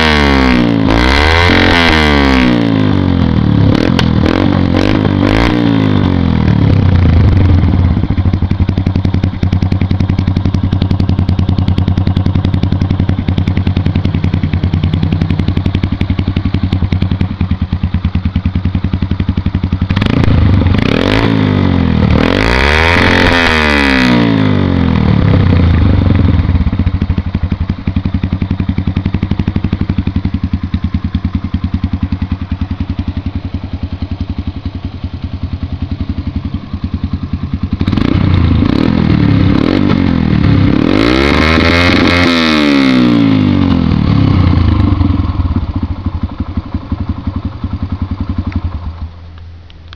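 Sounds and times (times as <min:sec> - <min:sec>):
motorcycle engine idling and revving: 0:00.0 - 0:49.9.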